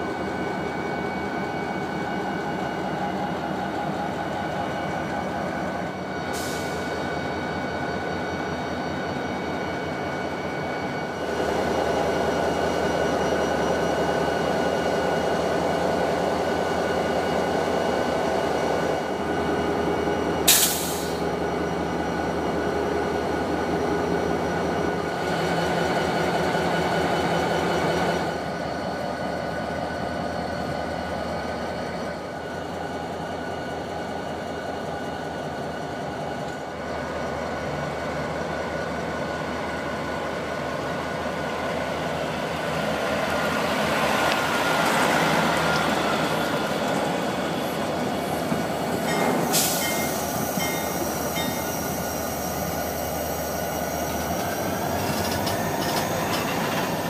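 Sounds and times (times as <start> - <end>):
diesel locomotive engines humming: 0.0 - 57.0.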